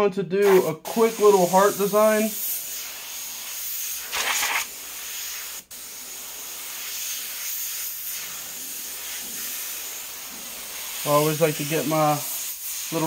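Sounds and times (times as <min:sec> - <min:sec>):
airbrush hissing: 0:00.4 - 0:13.0.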